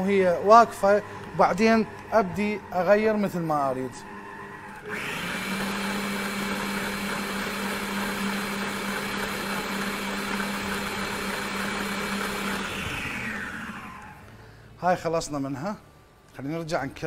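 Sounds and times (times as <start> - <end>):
electric stand mixer running: 0.0 - 14.3.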